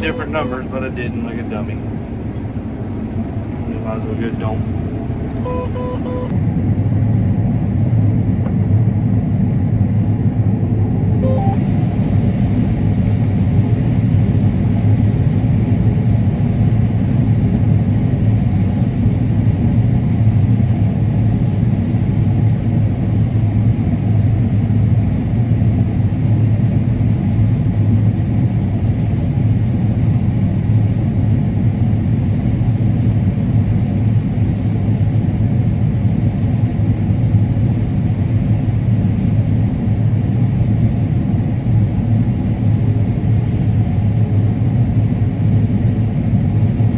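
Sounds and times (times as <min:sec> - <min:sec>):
combine harvester drone: 0:00.0 - 0:46.9.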